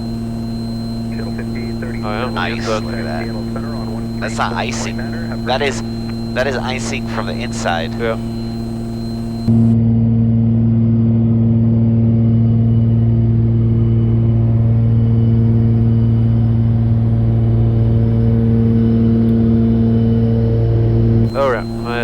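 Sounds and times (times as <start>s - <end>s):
aircraft cabin engine drone: 0.0s - 22.0s.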